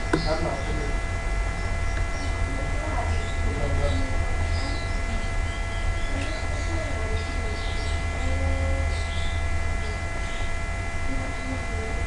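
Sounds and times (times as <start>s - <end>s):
high-pitched whine: 0.0s - 12.0s
low electrical mains hum: 0.0s - 12.0s.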